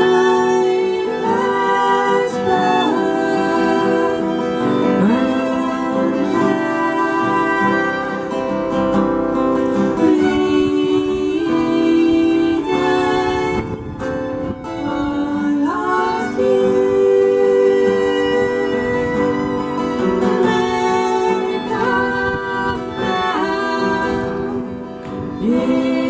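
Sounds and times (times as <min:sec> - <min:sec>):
acoustic guitar: 0:00.0 - 0:26.0
long held sliding notes: 0:00.0 - 0:26.0.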